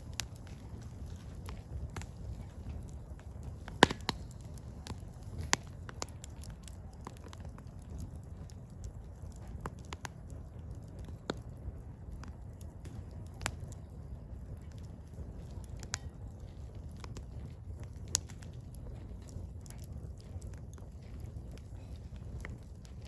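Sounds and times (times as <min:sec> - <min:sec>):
firewood crackling and popping: 0:00.0 - 0:23.0.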